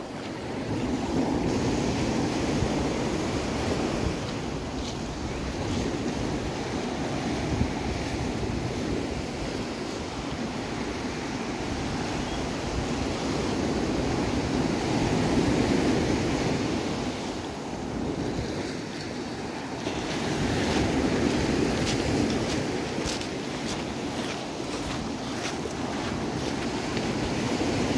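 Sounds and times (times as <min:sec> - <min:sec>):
surf breaking on a beach: 0:00.0 - 0:27.9
wind buffeting the microphone: 0:00.0 - 0:27.9.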